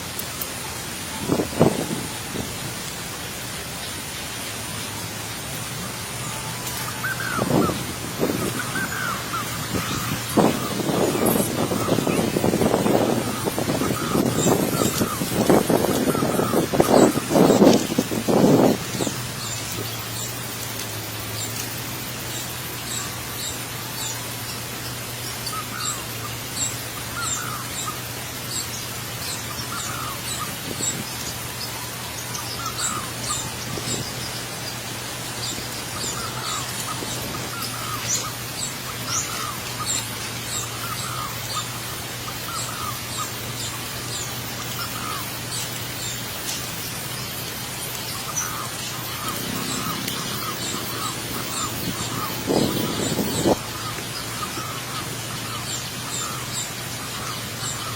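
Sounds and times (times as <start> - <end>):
small birds chirping: 0.0 - 57.9
steady hiss: 0.0 - 57.9.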